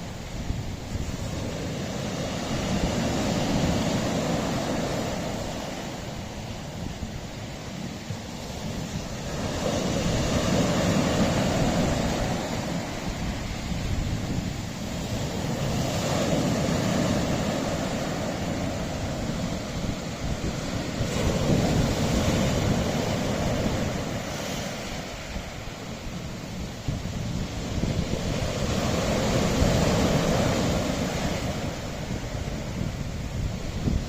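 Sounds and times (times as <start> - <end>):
waves on rocky shore: 0.0 - 34.0.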